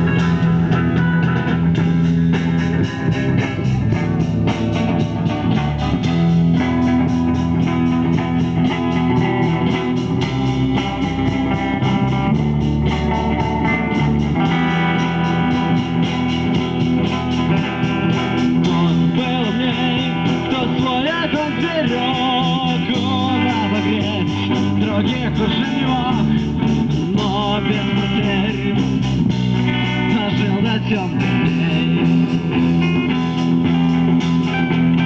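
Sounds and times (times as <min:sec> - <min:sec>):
bending guitar notes: 0:00.0 - 0:35.0
rock music with electric guitar: 0:00.0 - 0:35.0.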